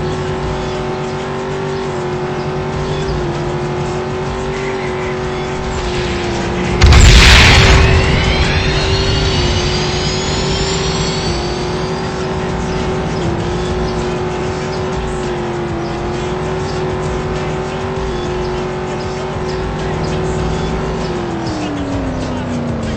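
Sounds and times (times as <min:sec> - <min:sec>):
car engine revving high: 0:00.0 - 0:22.9.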